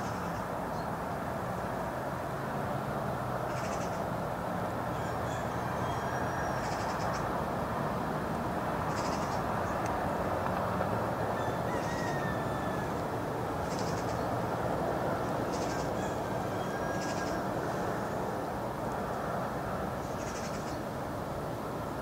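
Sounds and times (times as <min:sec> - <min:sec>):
steady wind rushing: 0:00.0 - 0:22.0.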